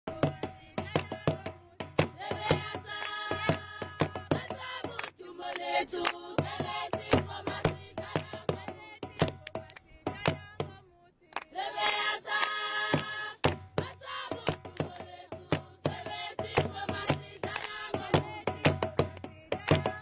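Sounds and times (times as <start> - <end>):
sharp percussive beat: 0.1 - 5.1, 6.3 - 10.8, 11.8 - 20.0
group of voices singing: 0.1 - 20.0.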